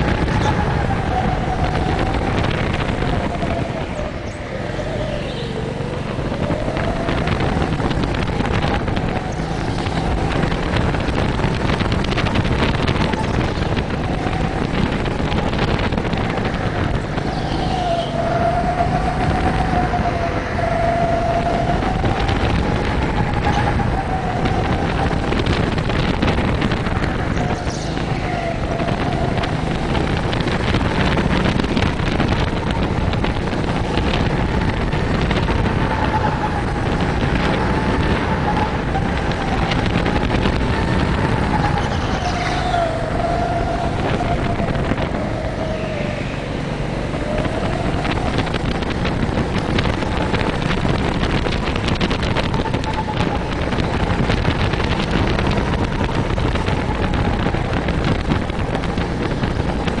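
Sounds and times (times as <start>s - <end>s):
go-kart motor whine: 0.0s - 60.0s
rush of noise: 0.0s - 60.0s.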